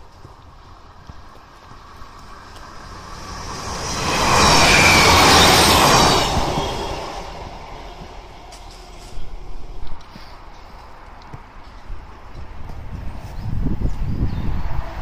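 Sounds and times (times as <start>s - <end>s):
train passing on rails: 0.0s - 15.0s.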